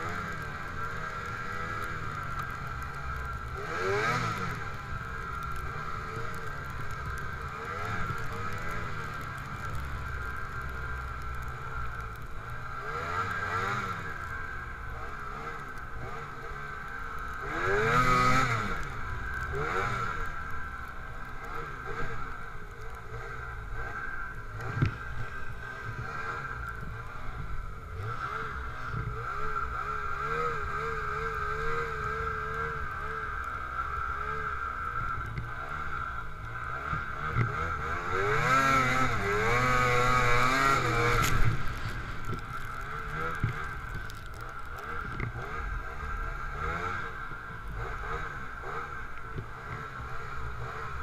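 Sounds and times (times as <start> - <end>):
snowmobile engine revving: 0.0 - 10.9, 12.7 - 20.7, 21.4 - 51.0.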